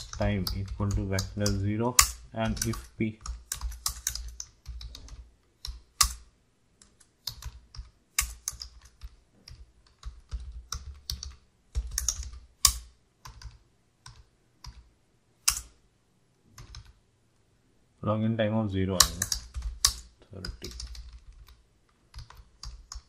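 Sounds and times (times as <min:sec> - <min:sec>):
typing on computer keyboard: 0:00.0 - 0:14.8, 0:16.6 - 0:17.0, 0:19.0 - 0:23.0.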